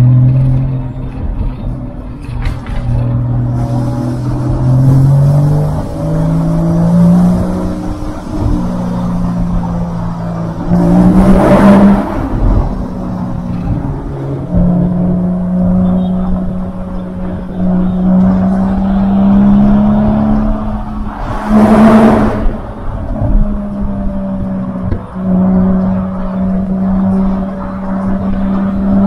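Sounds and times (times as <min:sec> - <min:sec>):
car exhaust drone: 0:00.0 - 0:29.0
wind and road noise: 0:00.0 - 0:29.0.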